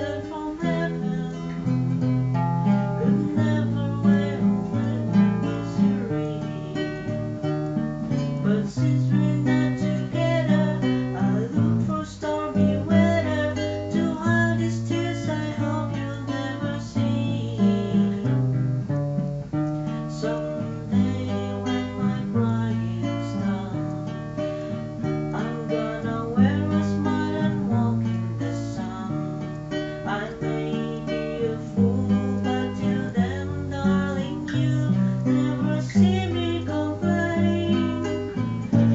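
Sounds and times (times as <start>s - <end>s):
acoustic guitar: 0.0s - 38.9s.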